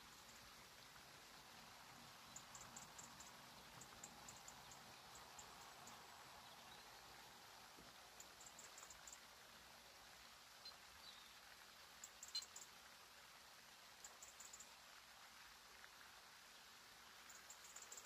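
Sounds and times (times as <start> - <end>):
faint lakeside ambience: 0.0 - 18.0.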